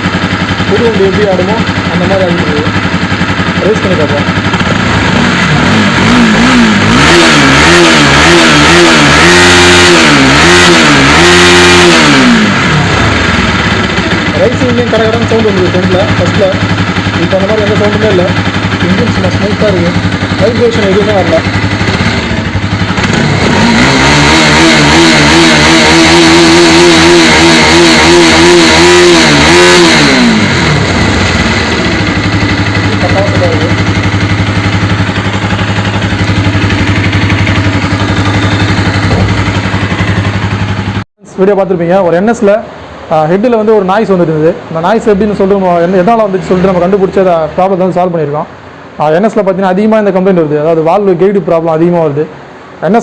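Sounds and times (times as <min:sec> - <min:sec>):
motorcycle engine revving: 0:00.0 - 0:52.8.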